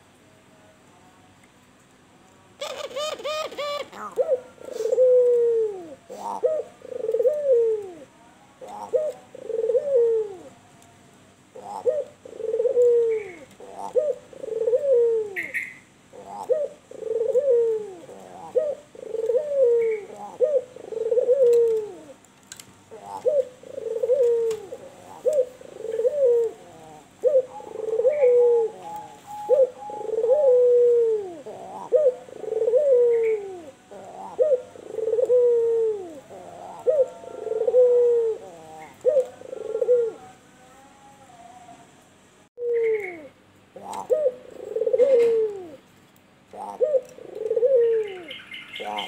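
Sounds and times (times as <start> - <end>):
dove cooing: 2.6 - 10.7, 11.5 - 22.2, 22.9 - 45.9, 46.5 - 49.0.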